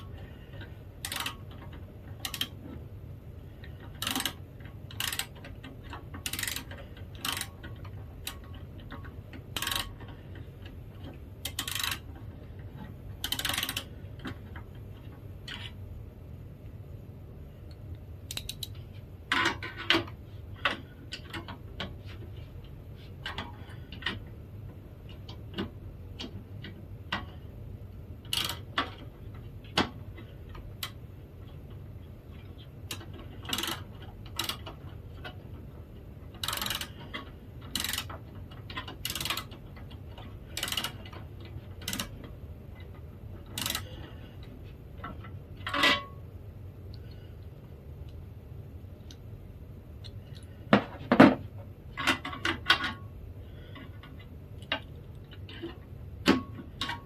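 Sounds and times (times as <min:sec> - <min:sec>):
clicks knocks and rattles of parts: 0:00.0 - 0:15.8, 0:17.7 - 0:46.2, 0:50.0 - 0:57.0
steady low hum: 0:00.0 - 0:57.0.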